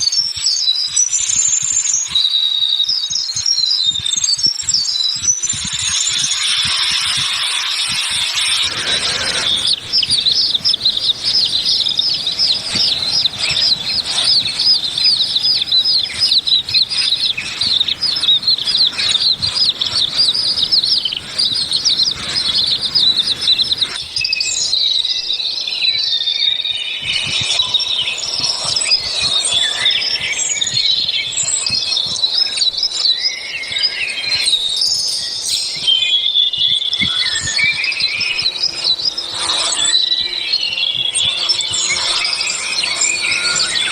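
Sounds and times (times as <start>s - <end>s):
birds chirping in chorus: 6.3s - 35.9s, 36.8s - 43.9s.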